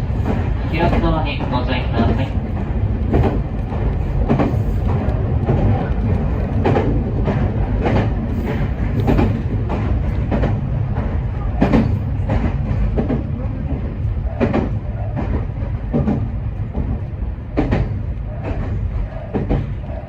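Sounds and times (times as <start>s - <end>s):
electric train rumbling on track: 0.0s - 20.0s
train wheels clacking over rails: 0.0s - 20.0s.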